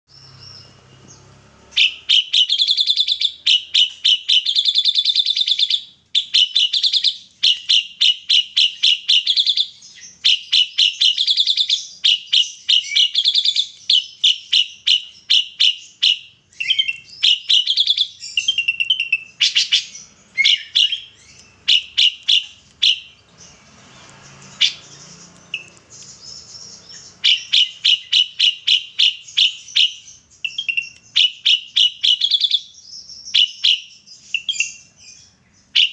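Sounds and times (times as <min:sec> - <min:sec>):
drongo chirping song: 0:00.1 - 0:35.9.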